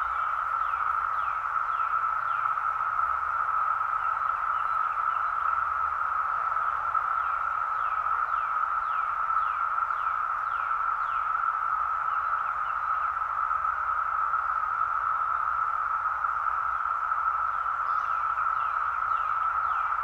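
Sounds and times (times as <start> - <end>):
cicadas droning: 0.0 - 20.0.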